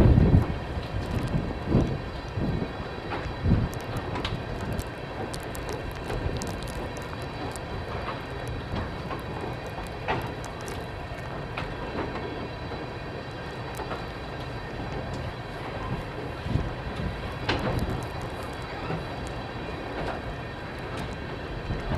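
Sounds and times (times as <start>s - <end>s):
freight train wheels rumbling: 0.0s - 21.9s
wheels clacking over rail joints: 0.2s - 21.9s.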